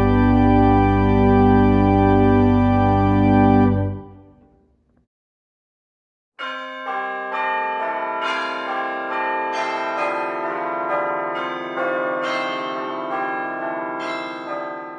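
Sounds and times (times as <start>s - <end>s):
church bells ringing: 0.0s - 4.2s, 6.4s - 14.9s.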